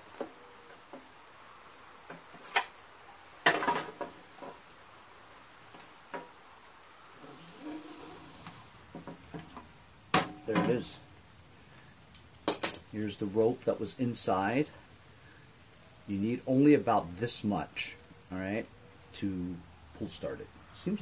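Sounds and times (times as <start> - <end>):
high insect chirring: 0.0 - 21.0.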